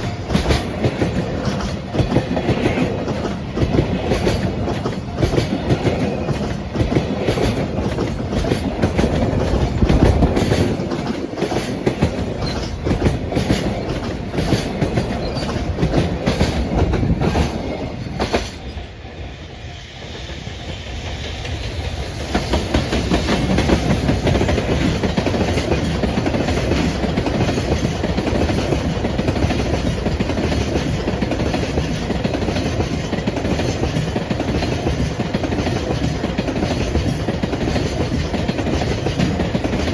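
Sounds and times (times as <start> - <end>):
train wheels clicking over rail joints: 0.0 - 19.0, 20.0 - 39.9.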